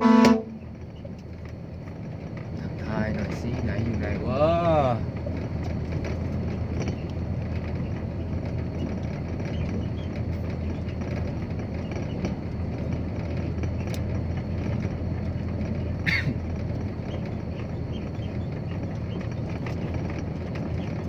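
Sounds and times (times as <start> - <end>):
dump truck engine drone: 0.0 - 21.0
faint rattles: 0.0 - 21.0
road noise: 0.0 - 21.0.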